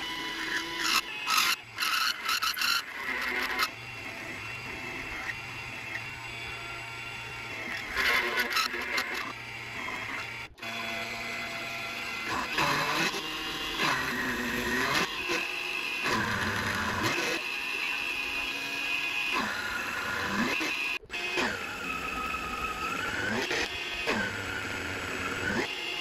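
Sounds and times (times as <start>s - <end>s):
mini mill cutting aluminium: 0.0s - 26.0s.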